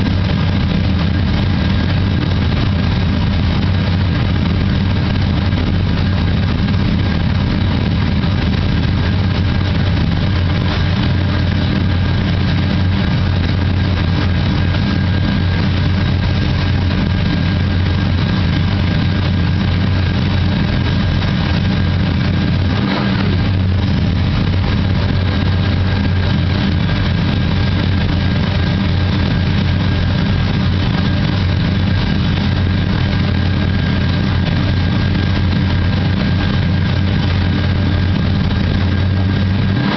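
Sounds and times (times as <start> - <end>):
engine idle sound effect: 0.0 - 39.9.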